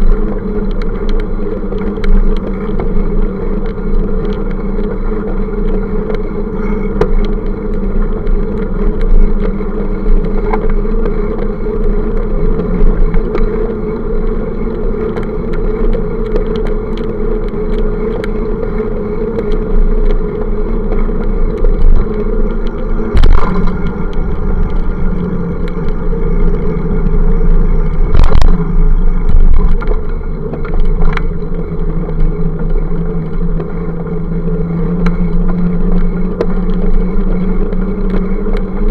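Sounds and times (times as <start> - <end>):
road traffic: 0.0 - 38.9
wind and road vibration rumble: 0.0 - 38.9.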